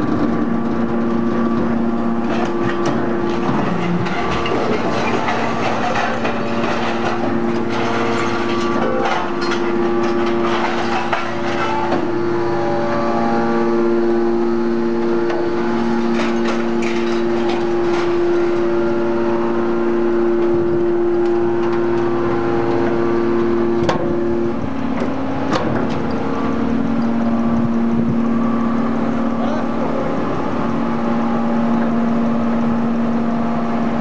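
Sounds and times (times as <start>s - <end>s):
hydraulic power unit whine: 0.0s - 34.0s.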